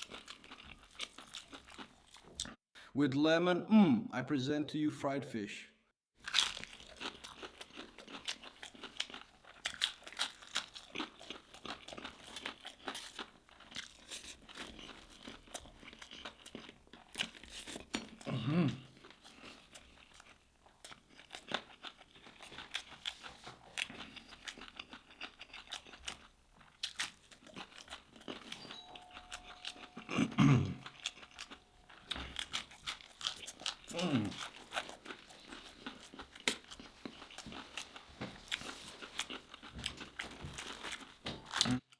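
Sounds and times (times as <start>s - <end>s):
crunching and chewing fried fish: 0.0s - 2.6s, 6.2s - 41.9s.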